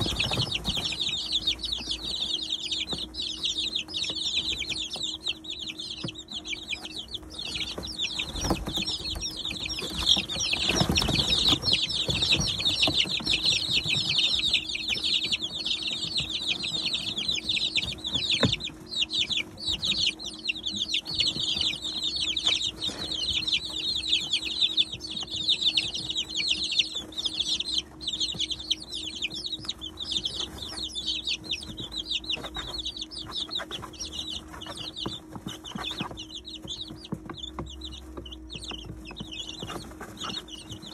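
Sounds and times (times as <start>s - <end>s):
chicks pecking at feeder: 0.0s - 40.9s
chicks peeping: 0.0s - 40.9s.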